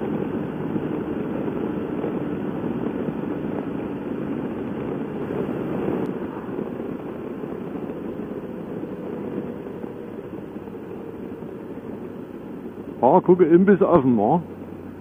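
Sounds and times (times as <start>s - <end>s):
motorcycle engine cruising: 0.0s - 15.0s
wind and tyre rush: 0.0s - 15.0s.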